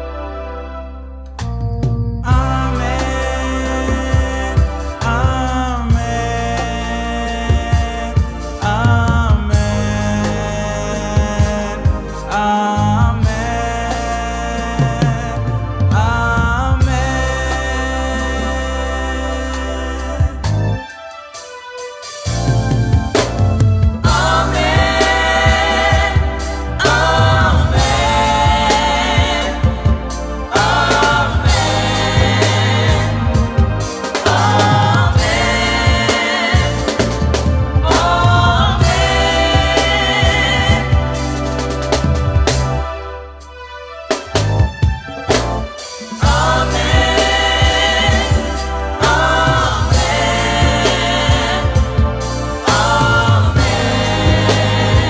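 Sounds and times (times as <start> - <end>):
band with bass drums keyboard: 1.0 - 55.0
gospel choir singing: 2.2 - 55.0.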